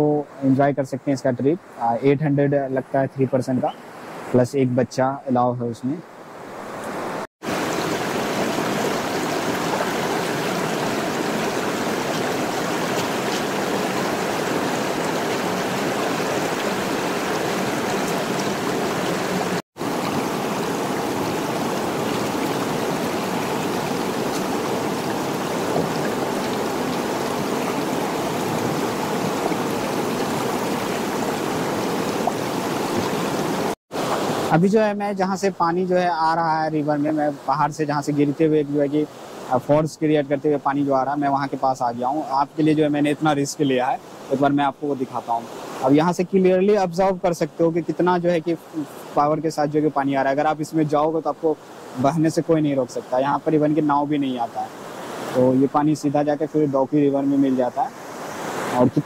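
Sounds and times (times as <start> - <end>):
mountain stream rushing over rocks: 6.5 - 59.0.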